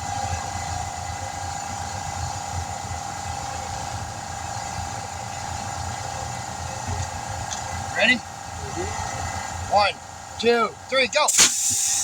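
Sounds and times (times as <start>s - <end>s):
constant high whine: 0.0s - 12.0s
engine idling rumble: 0.0s - 12.0s.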